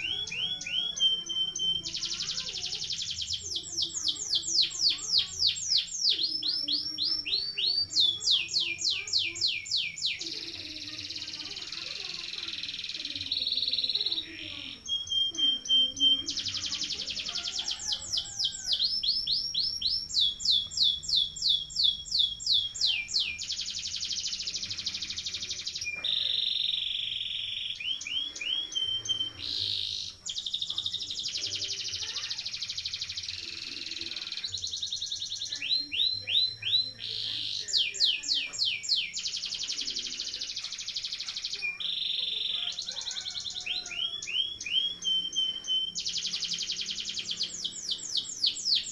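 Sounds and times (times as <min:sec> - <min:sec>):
canary singing: 0:00.0 - 0:48.9.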